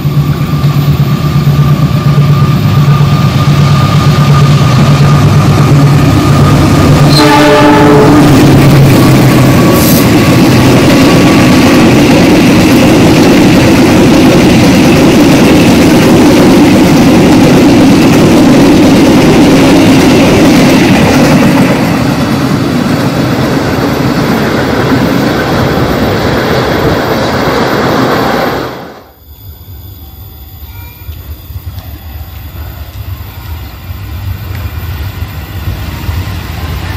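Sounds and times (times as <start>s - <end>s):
train wheels rushing on rail: 0.0s - 36.9s.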